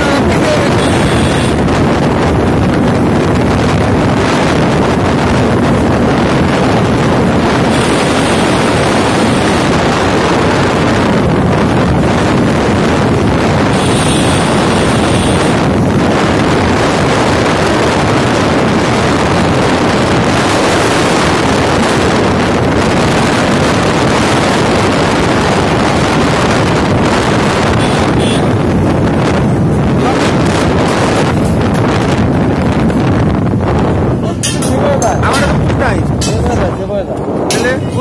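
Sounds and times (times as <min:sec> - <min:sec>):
motorcycle engine: 0:00.0 - 0:38.0
road noise: 0:00.0 - 0:38.0
wind roaring over microphone: 0:00.0 - 0:38.0.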